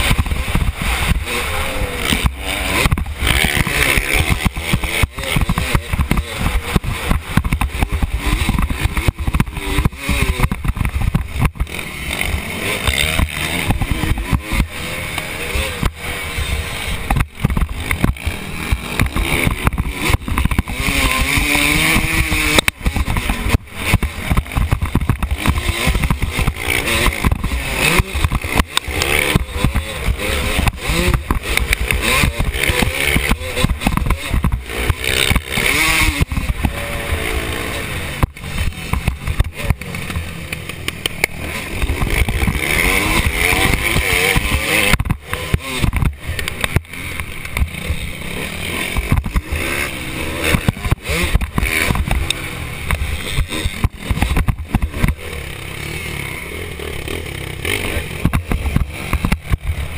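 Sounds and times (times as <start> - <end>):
helmet camera rattling: 0.0 - 14.8, 15.5 - 56.1, 56.7 - 59.9
motorbike engine revving: 0.0 - 59.9.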